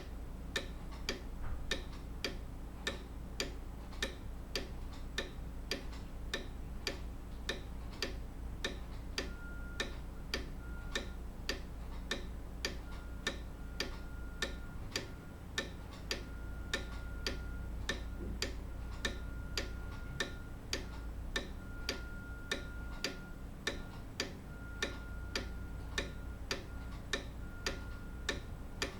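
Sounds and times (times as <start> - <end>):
faint low hum: 0.0 - 28.9
grandfather clock ticking: 0.0 - 28.9.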